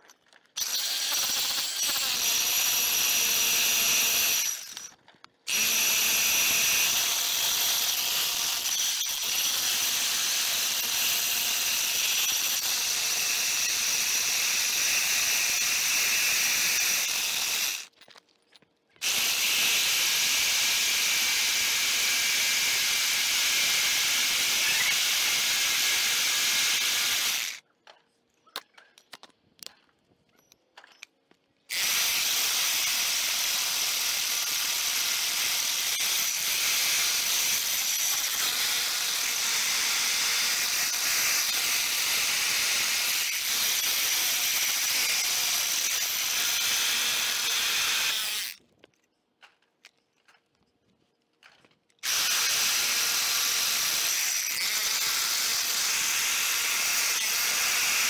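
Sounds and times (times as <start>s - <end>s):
hammer drill boring into concrete: 0.3s - 18.0s, 19.0s - 27.6s, 31.7s - 48.6s, 52.0s - 58.0s.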